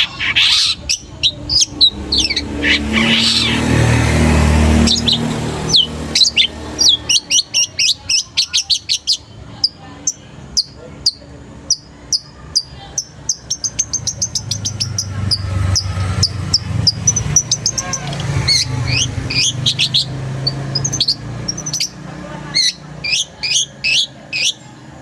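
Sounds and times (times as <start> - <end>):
bird chirping and chattering: 0.0 - 25.0.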